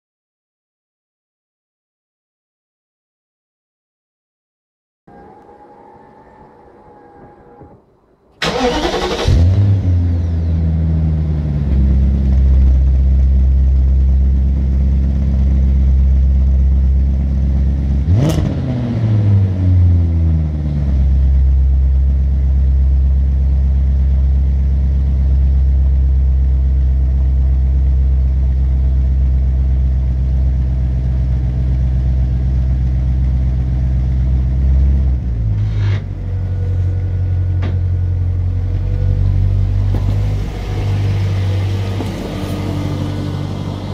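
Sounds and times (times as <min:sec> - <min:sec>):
car engine idling and revving: 0:08.4 - 0:43.9.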